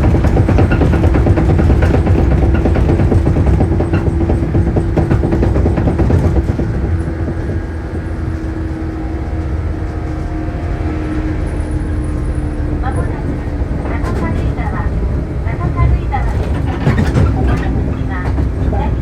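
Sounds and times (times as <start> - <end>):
train interior low rumble: 0.0 - 19.0
wheels rattling on rail: 0.0 - 19.0.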